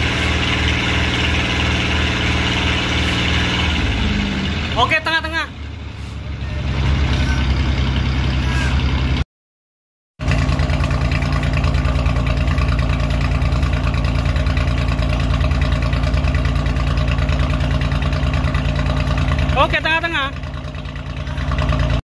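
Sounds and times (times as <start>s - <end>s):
diesel engine droning: 0.0s - 9.2s, 10.2s - 22.0s.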